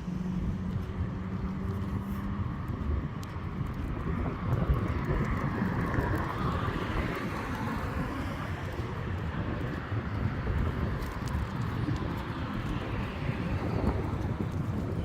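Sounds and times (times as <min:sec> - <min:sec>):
vehicle passing rumble: 0:00.0 - 0:15.0.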